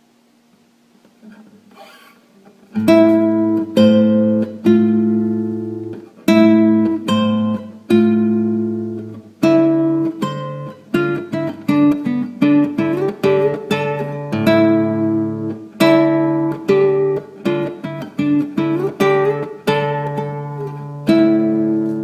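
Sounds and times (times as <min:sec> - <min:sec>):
acoustic guitar chords: 0:00.9 - 0:22.0.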